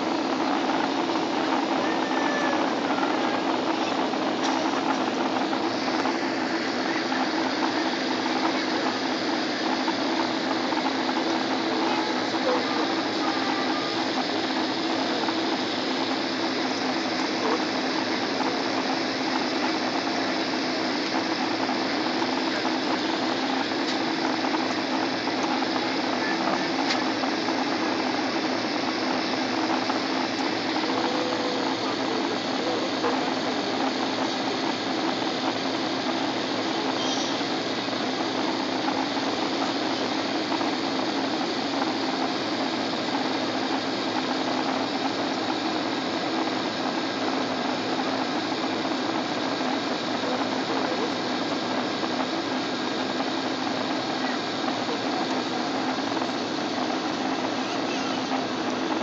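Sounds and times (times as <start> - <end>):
aircraft cabin roar: 0.0 - 59.0.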